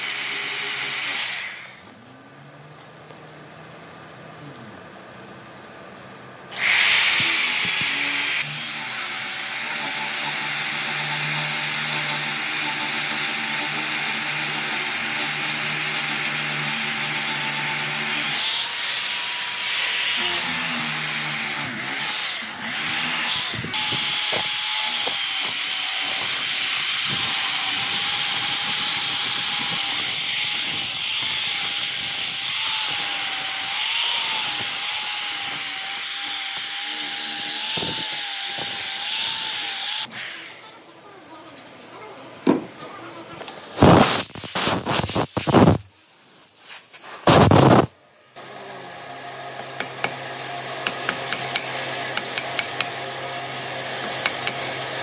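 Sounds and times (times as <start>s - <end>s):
electric drill whining into wood: 0.0s - 2.0s, 6.5s - 40.6s, 43.8s - 45.8s, 47.2s - 55.0s.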